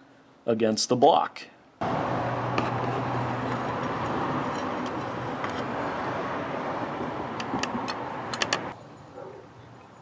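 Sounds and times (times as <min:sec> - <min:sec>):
vehicle background noise: 0:01.8 - 0:10.0.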